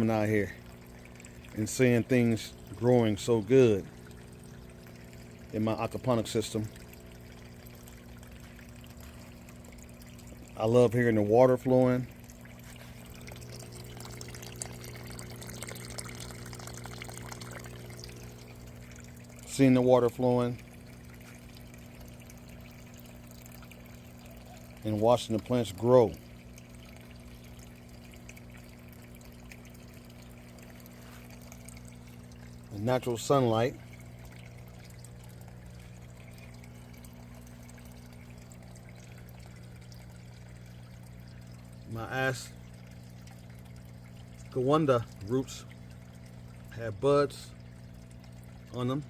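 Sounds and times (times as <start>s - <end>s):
steady low hum: 0.0s - 49.0s
water trickling and splashing: 0.0s - 49.0s.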